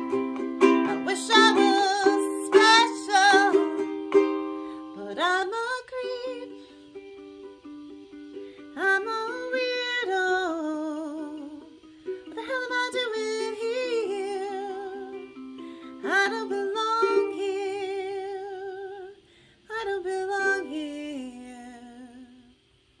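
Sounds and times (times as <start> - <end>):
woman singing with vibrato: 0.0 - 6.8, 8.7 - 15.3, 15.9 - 22.6
ukulele strumming: 0.0 - 22.3.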